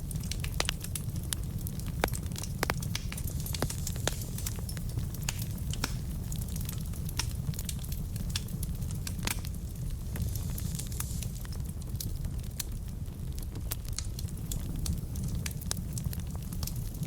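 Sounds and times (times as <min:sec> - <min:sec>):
burning logs crackling and popping: 0:00.0 - 0:17.0
low rumble of fire: 0:00.0 - 0:17.0.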